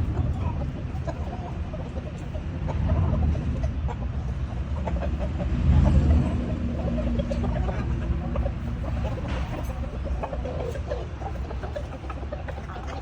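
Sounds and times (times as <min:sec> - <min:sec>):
roosters clucking: 0:00.0 - 0:13.0
steady low rumble: 0:00.0 - 0:13.0.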